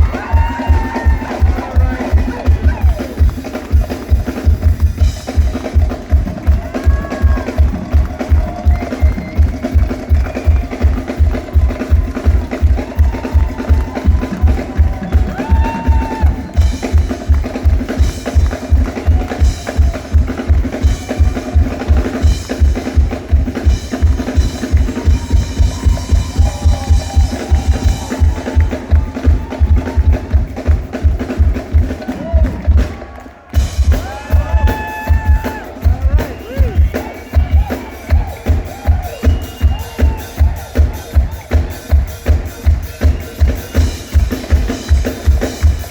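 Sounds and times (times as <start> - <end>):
live band playing gospel music: 0.0 - 45.9
steady kick drum beat: 0.0 - 45.9.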